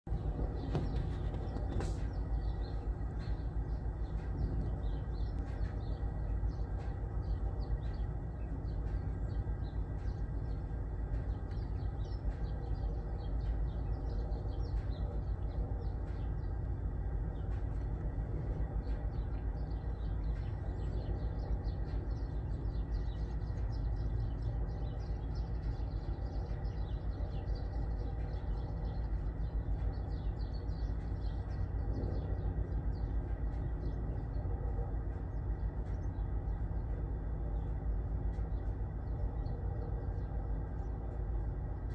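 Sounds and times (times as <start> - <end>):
steady low rumble: 0.0 - 41.9
small birds chirping: 0.1 - 41.9.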